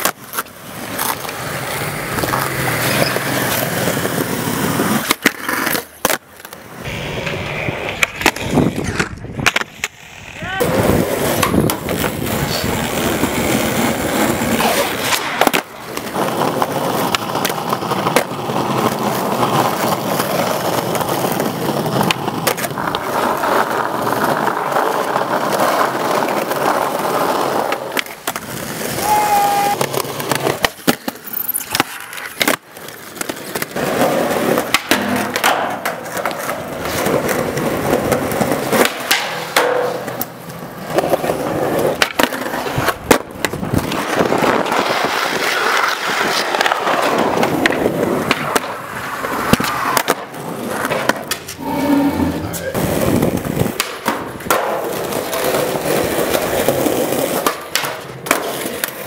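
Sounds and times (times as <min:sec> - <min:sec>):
skateboard tail clacks: 0:00.0 - 0:51.7, 0:52.5 - 0:59.0
skateboard wheels rolling on concrete: 0:00.0 - 0:59.0.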